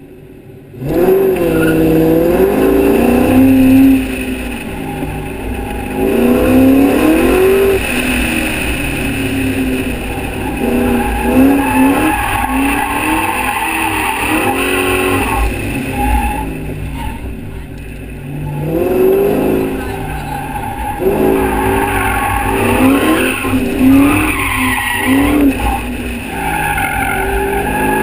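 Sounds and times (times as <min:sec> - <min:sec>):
car engine revving: 0:00.6 - 0:28.0.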